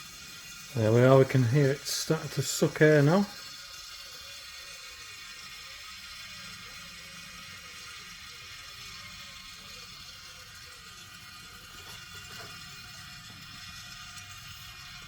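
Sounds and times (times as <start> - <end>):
oil extractor pipe hissing: 0.0 - 15.0.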